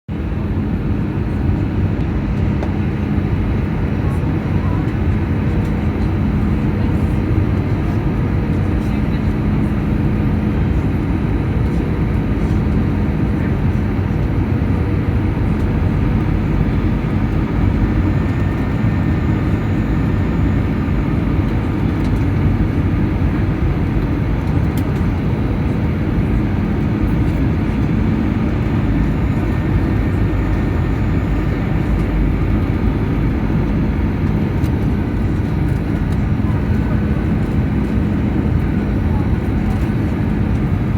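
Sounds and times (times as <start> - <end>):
airliner engine and airflow rush: 0.1 - 40.9.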